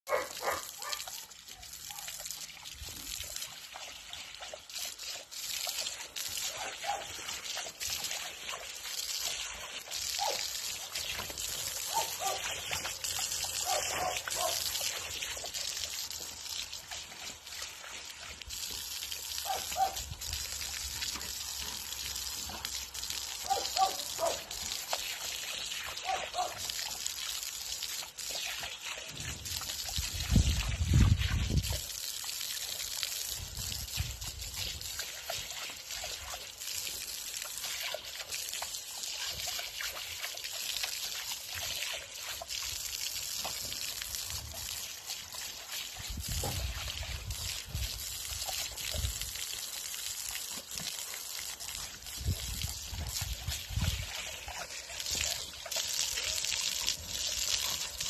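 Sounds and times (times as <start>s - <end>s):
dog drinking: 0.1s - 58.0s
water splashing from a tap: 0.1s - 58.0s.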